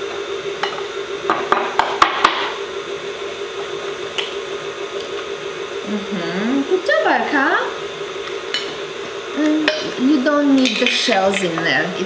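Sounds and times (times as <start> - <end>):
electric stand mixer running: 0.0 - 12.0.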